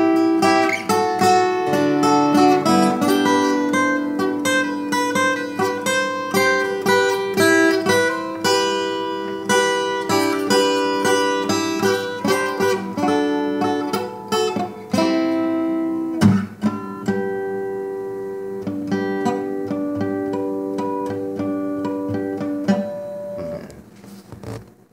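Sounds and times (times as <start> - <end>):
acoustic guitar playing: 0.0 - 24.9.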